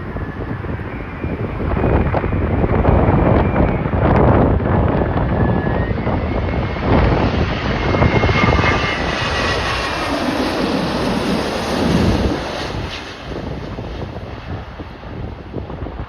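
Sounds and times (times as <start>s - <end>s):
jet airliner engines passing: 0.0s - 16.0s
wind buffeting microphone: 0.0s - 16.0s.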